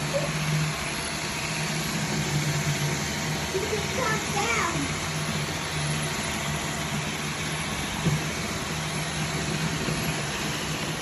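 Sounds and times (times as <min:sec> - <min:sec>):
robot vacuum motor hum: 0:00.0 - 0:11.0.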